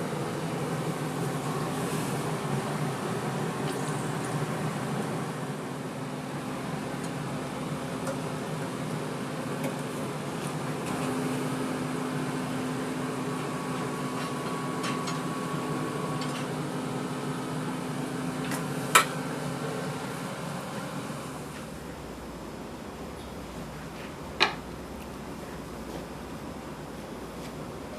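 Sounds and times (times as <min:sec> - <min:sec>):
machine hum: 0:00.0 - 0:27.9.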